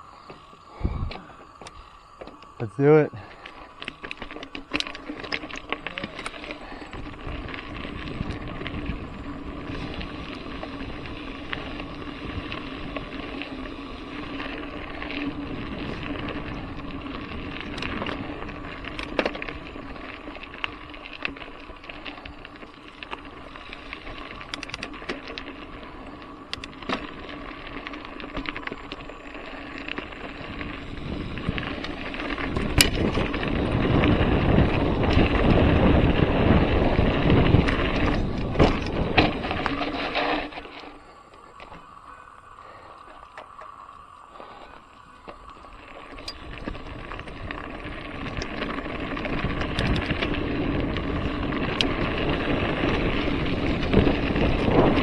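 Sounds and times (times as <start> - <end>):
bike clicks and rattles: 0.0 - 55.0
bike tyres rolling over dirt: 0.0 - 55.0.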